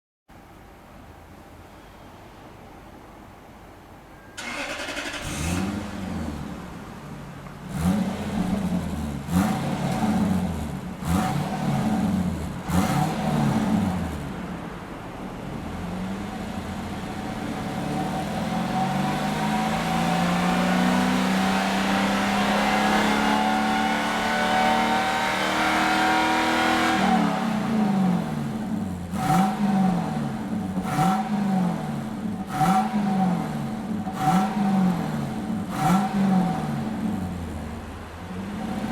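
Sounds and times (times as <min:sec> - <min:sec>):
car engine revving: 0:04.4 - 0:38.9.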